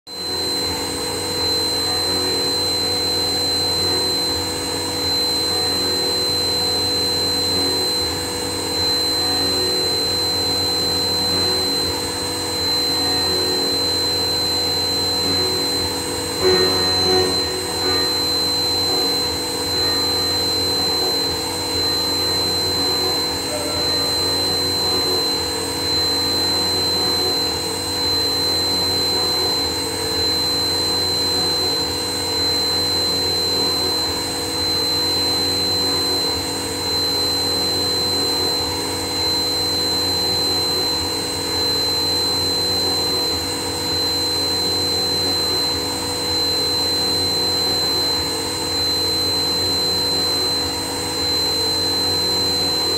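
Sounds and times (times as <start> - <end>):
machine high-pitched whine: 0.1 - 52.9
motor hum: 0.1 - 52.9.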